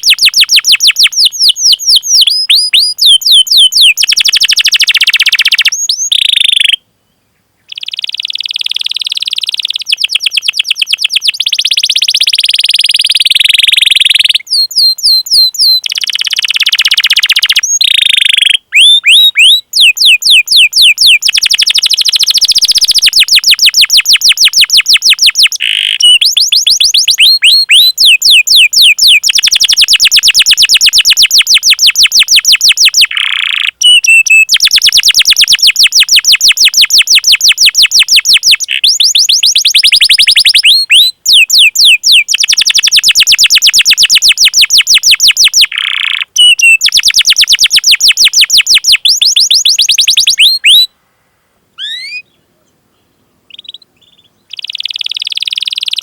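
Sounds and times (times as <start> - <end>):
canary singing trills: 0.0 - 6.8, 7.6 - 50.9, 51.8 - 56.0.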